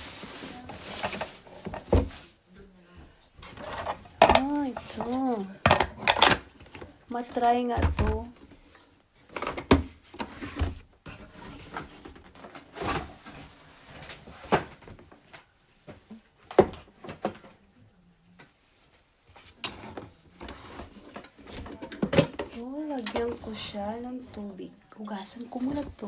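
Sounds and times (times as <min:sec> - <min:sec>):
soft handling noise: 0:00.0 - 0:17.7, 0:18.3 - 0:26.0.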